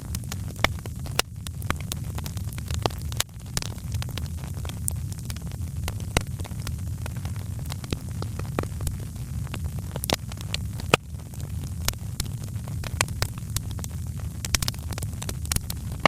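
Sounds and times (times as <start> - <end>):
wood fire crackling: 0.0 - 16.0
fire pops and snaps: 0.1 - 16.0.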